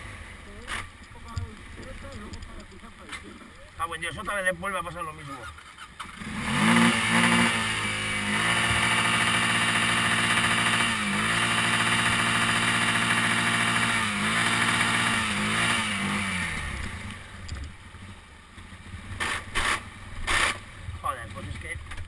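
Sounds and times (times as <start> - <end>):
quad engine labouring: 0.0 - 22.0.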